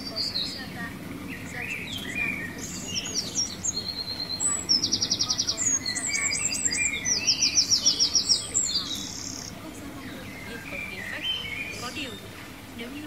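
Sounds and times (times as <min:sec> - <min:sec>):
bird trills: 0:00.0 - 0:12.3
birds chirping and twittering: 0:00.0 - 0:13.0
low background noise: 0:00.0 - 0:13.0.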